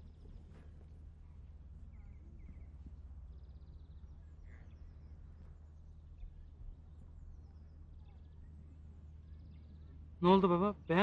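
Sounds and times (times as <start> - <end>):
faint birdsong trills: 1.8 - 11.0.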